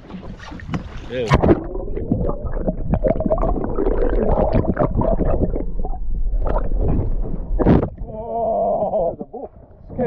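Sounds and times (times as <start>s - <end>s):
underwater water gurgling: 0.0s - 10.0s.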